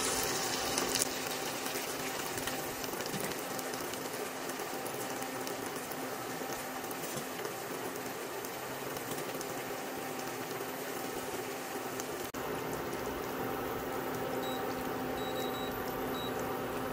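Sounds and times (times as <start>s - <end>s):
food sizzling in oil: 0.0s - 16.9s.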